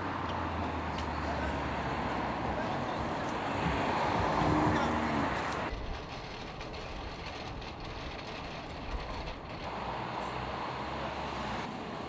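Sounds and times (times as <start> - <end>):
rumble of passing vehicles: 0.0 - 12.0.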